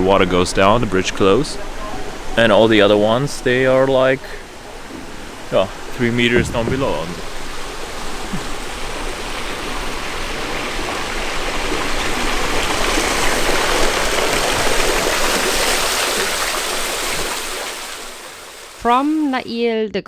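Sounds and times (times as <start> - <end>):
water rushing and pouring: 0.0 - 19.0.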